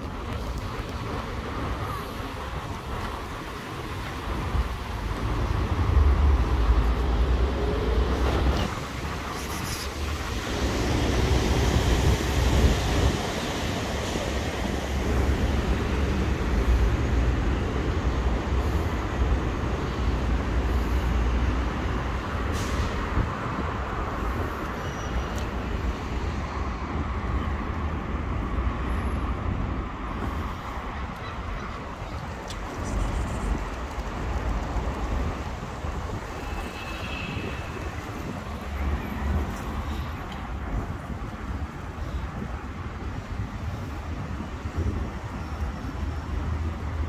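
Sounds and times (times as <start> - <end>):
traffic rumble and hiss: 0.0 - 47.0.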